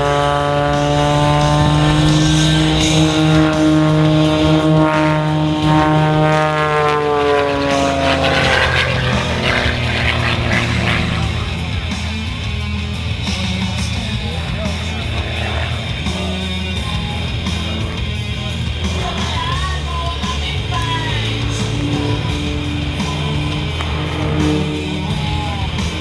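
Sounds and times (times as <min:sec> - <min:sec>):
propeller airplane flying past: 0:00.0 - 0:26.0.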